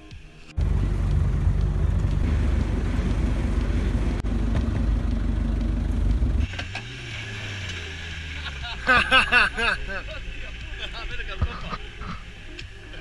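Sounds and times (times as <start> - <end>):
engine idling: 0.6 - 11.6.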